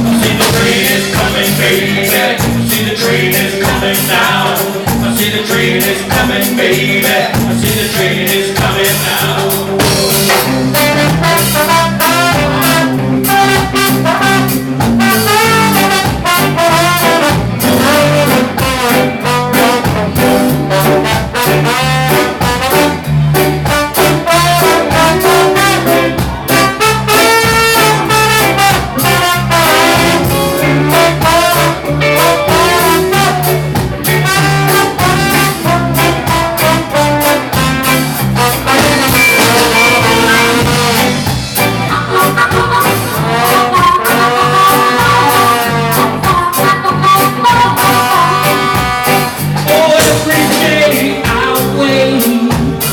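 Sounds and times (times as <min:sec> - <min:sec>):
reggae band playing: 0:00.0 - 0:52.9.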